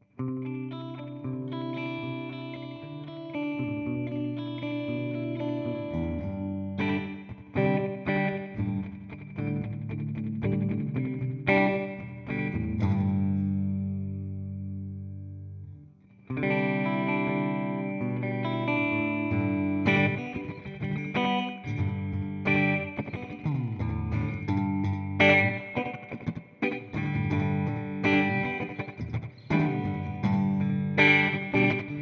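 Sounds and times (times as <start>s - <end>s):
electric guitar chords and notes: 0.0s - 32.0s.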